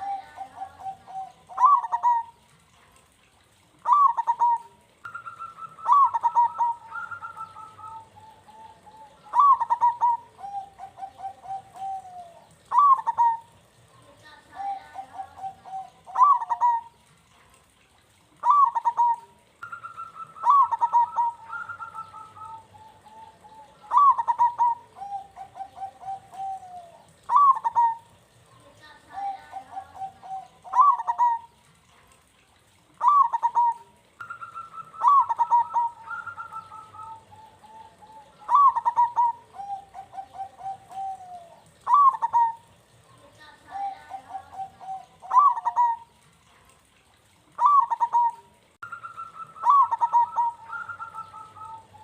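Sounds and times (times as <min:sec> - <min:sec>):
dove cooing: 0:00.0 - 0:02.8, 0:03.8 - 0:31.6, 0:32.8 - 0:52.0.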